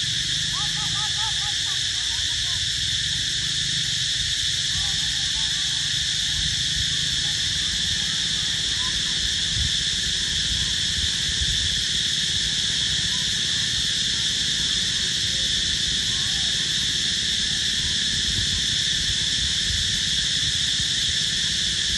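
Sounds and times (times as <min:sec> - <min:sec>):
insects droning: 0:00.0 - 0:21.9
low uneven rumble: 0:00.0 - 0:21.9.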